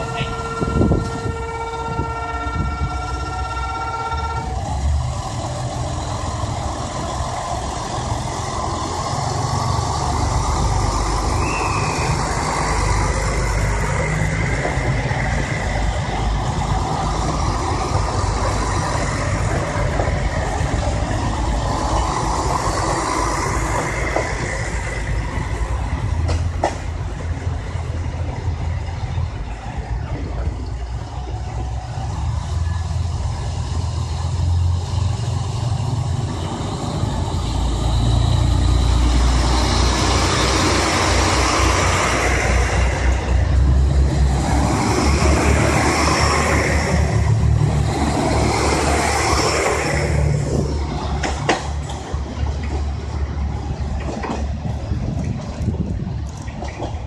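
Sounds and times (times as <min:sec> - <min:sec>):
diesel train engines rumbling: 0:00.0 - 0:57.0.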